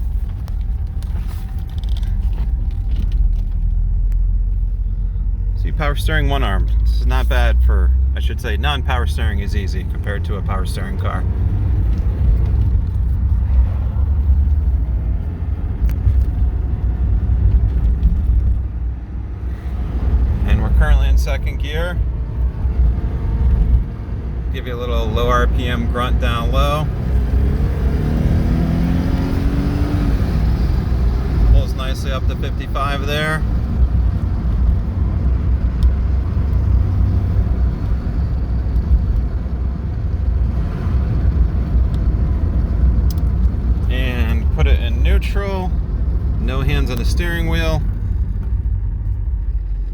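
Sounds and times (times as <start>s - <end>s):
car engine rumbling: 0.0s - 49.9s
road noise inside car: 0.0s - 49.9s.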